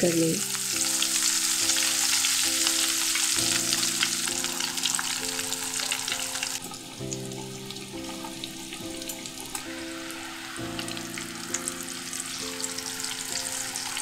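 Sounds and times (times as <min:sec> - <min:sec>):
eggplant sizzling in hot oil: 0:00.0 - 0:14.0.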